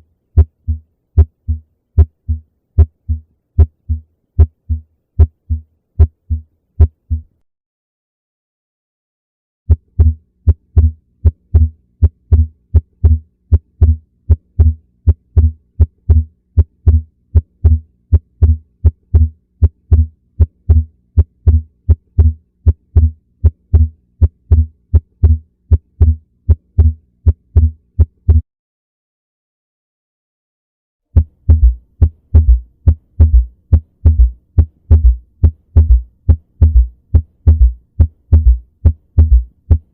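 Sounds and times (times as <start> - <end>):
faint steady hum: 0.0 - 7.4, 9.7 - 28.4, 31.2 - 39.9
heartbeat thumps: 0.4 - 7.3, 9.7 - 28.4, 31.2 - 39.9.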